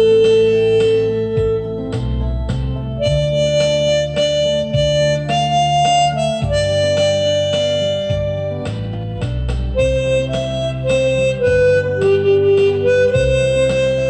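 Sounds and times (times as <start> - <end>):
harmonica slow melody: 0.0 - 14.0
low sustained bass notes: 0.0 - 14.0.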